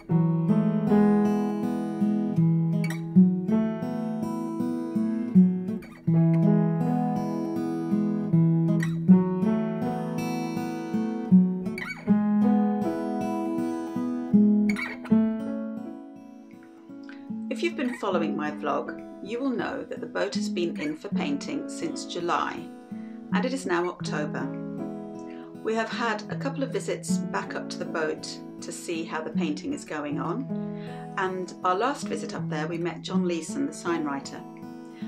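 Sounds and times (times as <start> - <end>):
acoustic guitar chords: 0.0 - 35.0.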